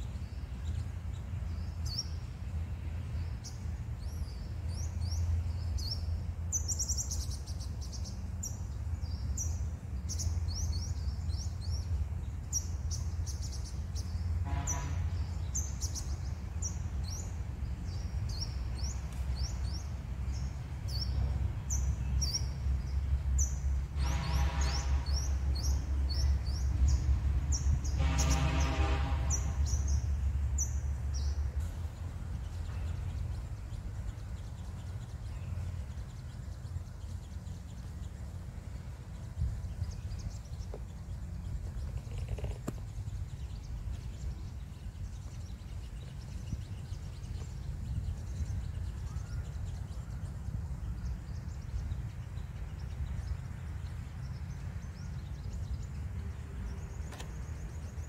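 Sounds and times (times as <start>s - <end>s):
birds chirping high: 0.0s - 58.0s
low steady rumble: 0.0s - 58.0s.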